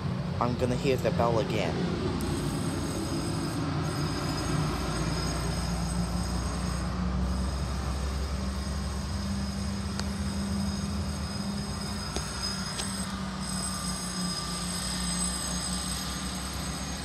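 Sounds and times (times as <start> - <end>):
truck engine running: 2.0 - 17.0.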